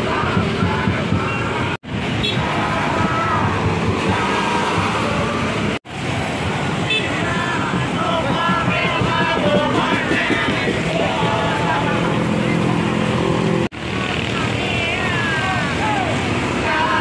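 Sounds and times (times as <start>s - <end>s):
bus engines running: 0.0s - 17.0s
road traffic: 0.0s - 17.0s
supporters' voices: 0.0s - 17.0s.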